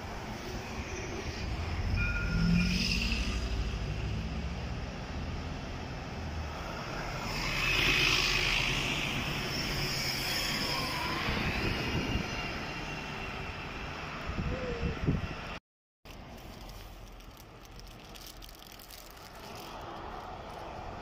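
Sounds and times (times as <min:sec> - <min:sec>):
buses driving past: 0:00.0 - 0:15.6, 0:16.2 - 0:21.0.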